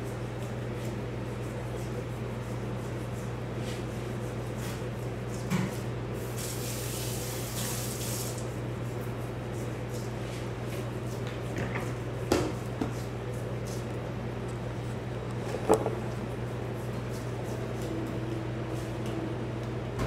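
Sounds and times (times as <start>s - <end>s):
steady low hum: 0.0s - 6.3s, 8.5s - 20.0s.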